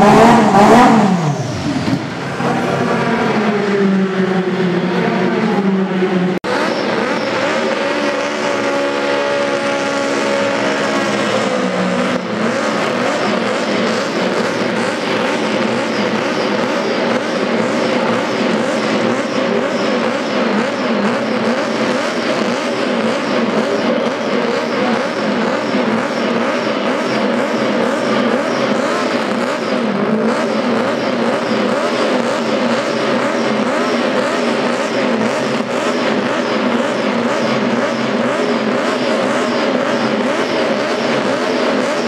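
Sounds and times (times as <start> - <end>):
racing car engine running: 0.0 - 42.0.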